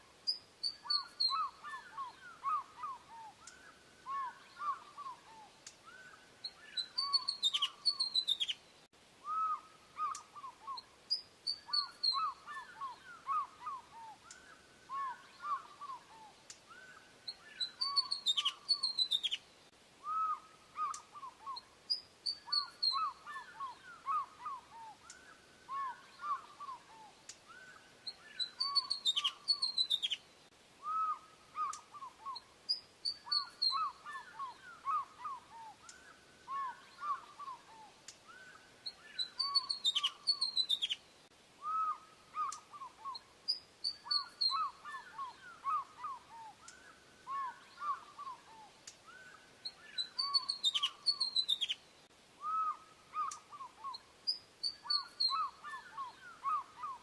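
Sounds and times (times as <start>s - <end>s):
osprey whistling calls: 0.3s - 8.6s, 9.2s - 19.4s, 20.0s - 30.2s, 30.8s - 41.0s, 41.6s - 51.8s, 52.4s - 57.0s.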